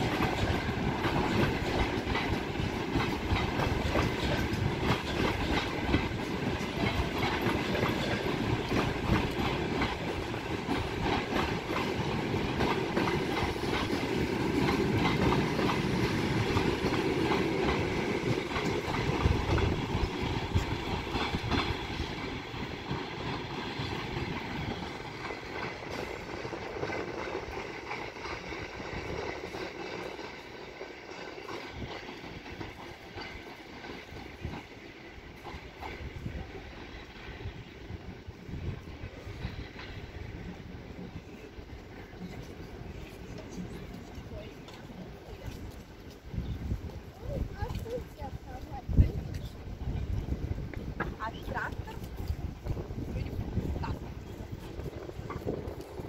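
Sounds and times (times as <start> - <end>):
train rumble: 0.0 - 56.0
train wheels clattering over rail joints: 0.0 - 56.0.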